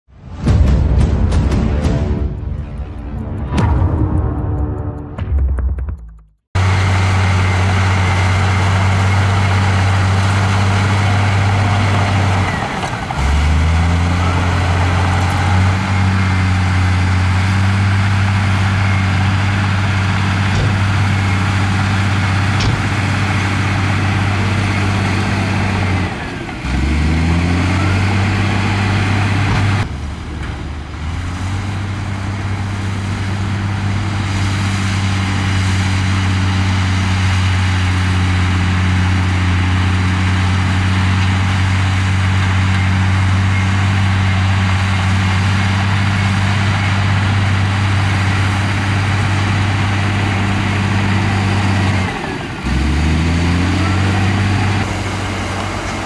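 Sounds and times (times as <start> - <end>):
heavy diesel engine droning: 6.6 - 56.0.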